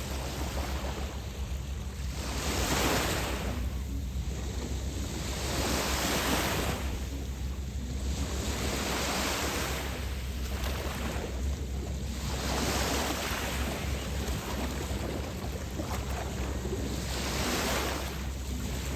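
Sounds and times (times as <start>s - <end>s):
waves washing onto beach: 0.0s - 18.9s
wind rumble on microphone: 0.0s - 18.9s.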